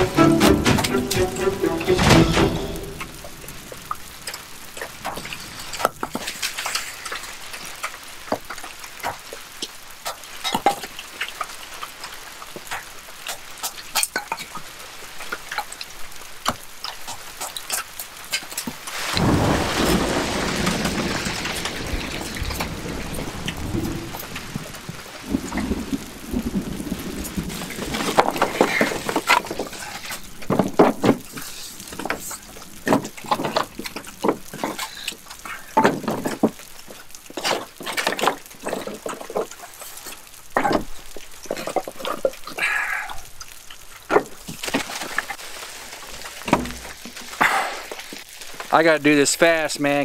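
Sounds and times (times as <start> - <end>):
rain hiss: 0.0 - 50.0
raindrops ticking: 0.0 - 50.0
rushing rain noise: 0.0 - 50.0.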